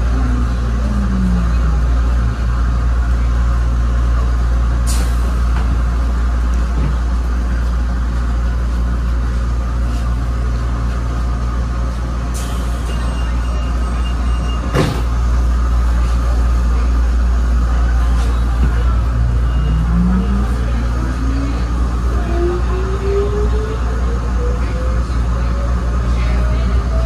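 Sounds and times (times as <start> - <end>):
tram hum and rumble: 0.0 - 27.0.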